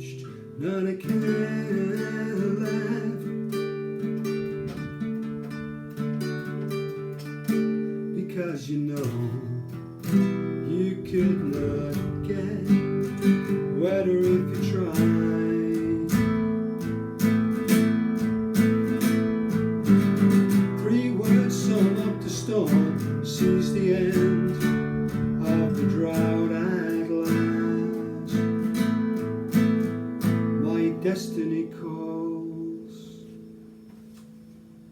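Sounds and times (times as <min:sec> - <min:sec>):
acoustic guitar strumming: 0:00.0 - 0:34.9.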